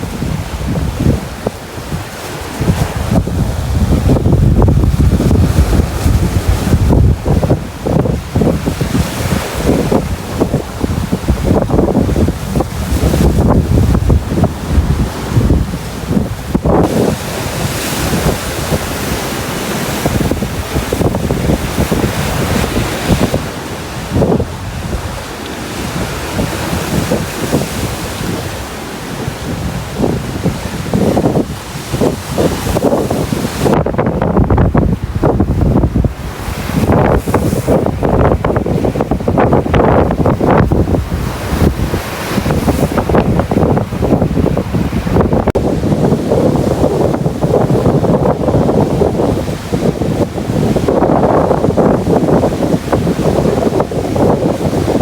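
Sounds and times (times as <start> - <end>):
sea waves crashing: 0.0 - 55.0
wind buffeting microphone: 0.0 - 55.0.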